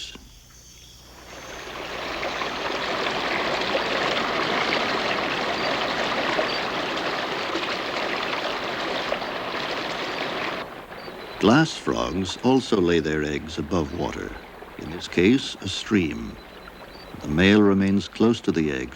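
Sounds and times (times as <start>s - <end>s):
stream water rushing: 1.2s - 18.9s.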